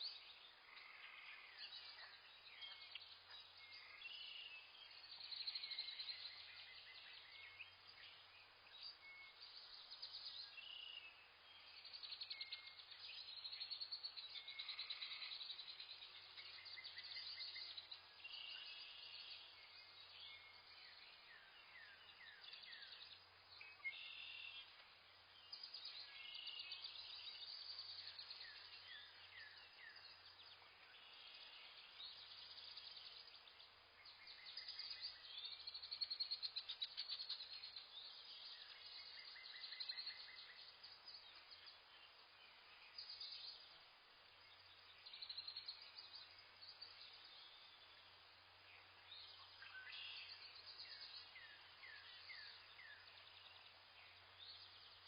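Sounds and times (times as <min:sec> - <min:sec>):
wild birds chirping and trilling: 0:00.0 - 0:55.0.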